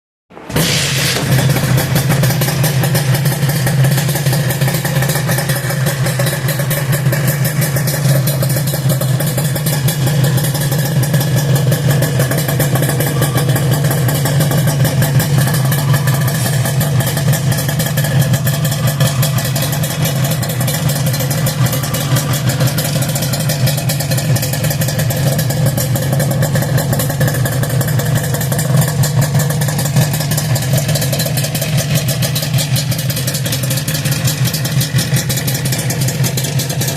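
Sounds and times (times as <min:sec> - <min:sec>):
motorcycle engine idling: 0:00.5 - 0:36.9.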